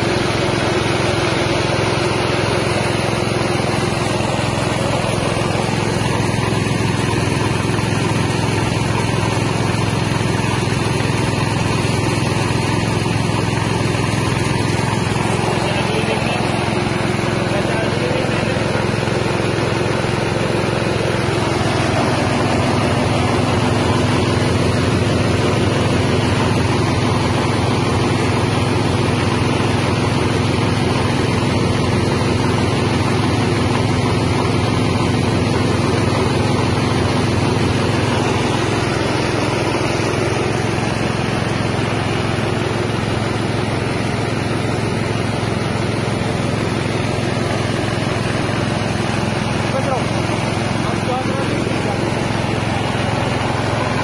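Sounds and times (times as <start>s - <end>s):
rice milling machine running: 0.0s - 54.0s.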